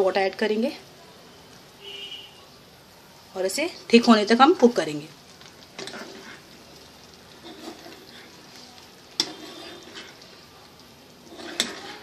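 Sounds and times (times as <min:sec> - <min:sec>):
gravy simmering and sizzling in a pan: 0:00.0 - 0:12.0.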